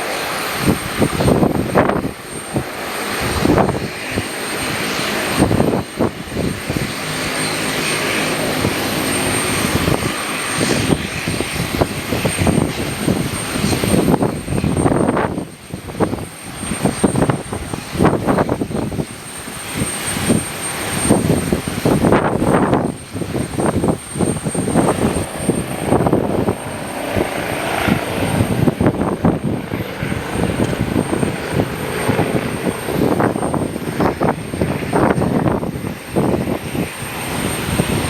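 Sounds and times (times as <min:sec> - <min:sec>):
aircraft engines running: 0:00.0 - 0:38.0
gusty wind buffeting microphone: 0:00.0 - 0:38.0.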